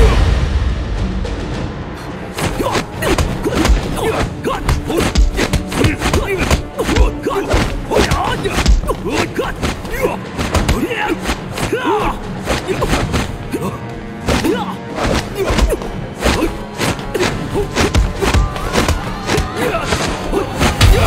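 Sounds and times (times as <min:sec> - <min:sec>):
dramatic background music: 0:00.0 - 0:21.0.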